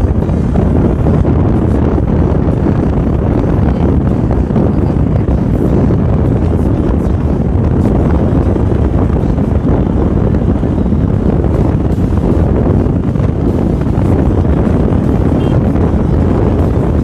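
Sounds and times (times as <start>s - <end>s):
low engine hum: 0.0s - 17.0s
wind buffeting microphone: 0.0s - 17.0s.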